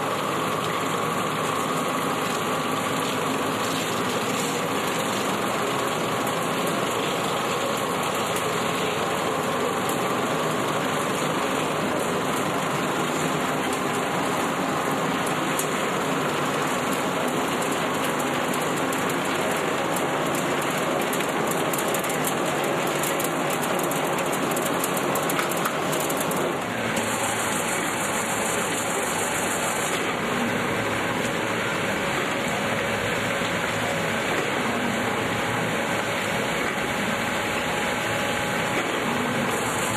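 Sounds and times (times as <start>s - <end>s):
mill machinery running: 0.0s - 39.9s.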